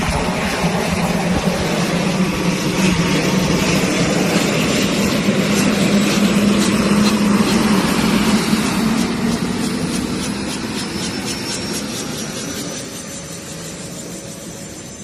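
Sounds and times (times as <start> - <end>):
helicopter engine and rotor roar: 0.0 - 15.0.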